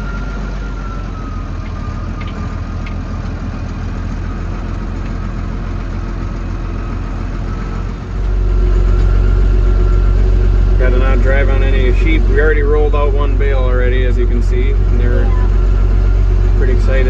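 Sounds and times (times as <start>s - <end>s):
farm vehicle engine droning: 0.0s - 17.0s.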